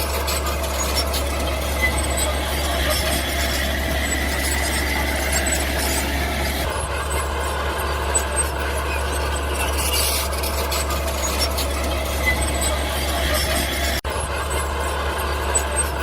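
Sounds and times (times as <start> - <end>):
bulldozer engine running: 0.0 - 16.0
high-pitched metallic squeals: 0.0 - 16.0.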